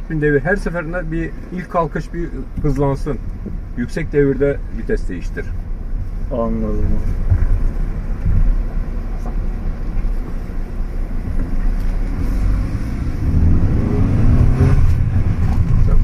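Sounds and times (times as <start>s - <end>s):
car engine revving under acceleration: 0.8s - 16.0s.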